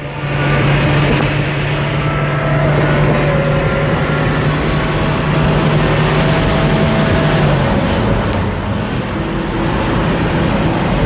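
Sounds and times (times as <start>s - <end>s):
road and wind rush: 0.0s - 11.0s
truck engine running hard: 0.0s - 11.0s.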